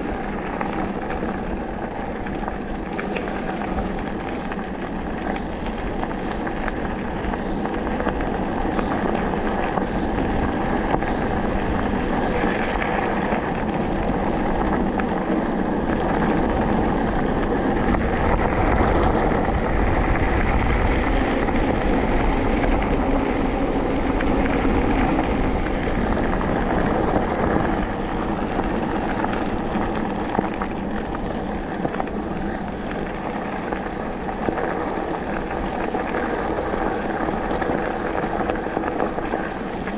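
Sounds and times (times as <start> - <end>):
bike tyres crunching on gravel: 0.0 - 39.9
wind noise on microphone: 0.0 - 39.9.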